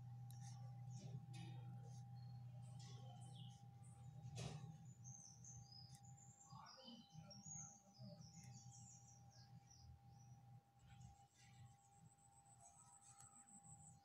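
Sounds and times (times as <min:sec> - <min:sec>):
faint birds chirping: 0:00.0 - 0:14.0
low electrical hum: 0:00.0 - 0:14.0.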